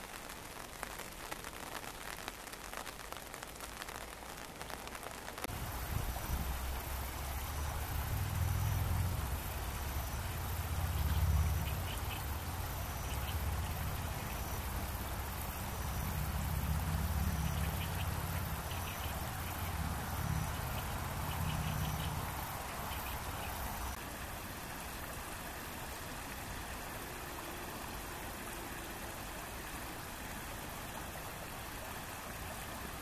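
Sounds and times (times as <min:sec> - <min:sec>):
stream flowing over stones: 0:00.0 - 0:33.0
low uneven rumble: 0:05.5 - 0:33.0.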